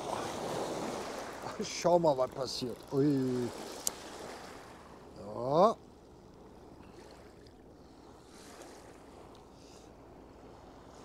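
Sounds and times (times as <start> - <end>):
water lapping: 0.0 - 11.0
low steady rumble: 1.4 - 11.0.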